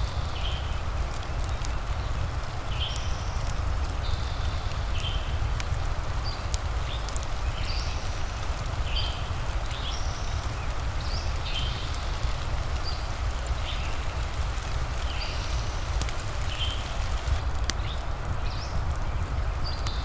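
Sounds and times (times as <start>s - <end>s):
fireplace crackles: 0.0s - 20.0s
steady rain: 0.0s - 20.0s.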